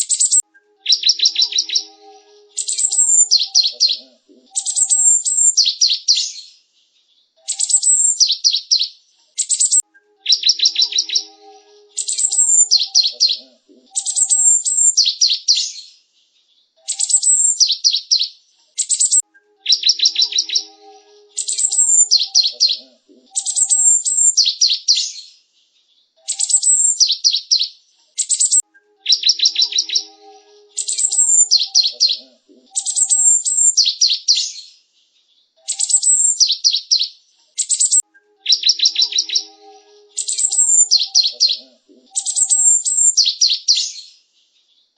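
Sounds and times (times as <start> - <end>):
bird chirps and trills: 0.0 - 6.5, 7.4 - 15.9, 16.8 - 25.3, 26.2 - 34.7, 35.6 - 44.1.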